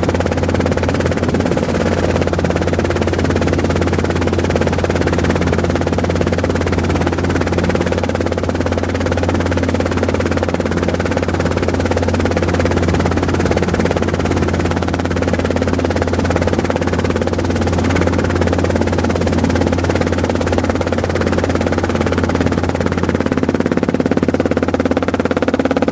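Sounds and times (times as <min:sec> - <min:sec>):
helicopter engine and rotor drone: 0:00.0 - 0:25.9.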